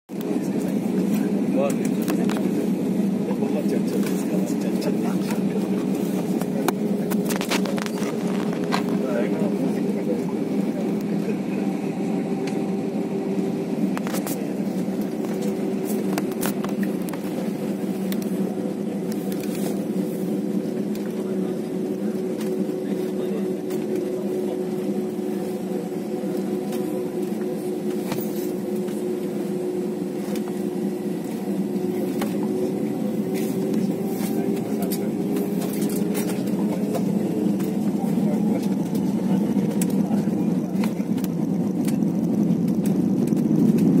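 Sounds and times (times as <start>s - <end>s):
jet cabin engine hum: 0.1s - 44.0s.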